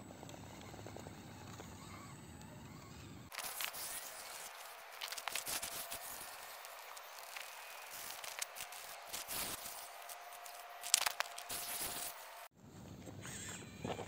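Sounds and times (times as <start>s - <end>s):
electric motor whine: 0.0s - 12.5s.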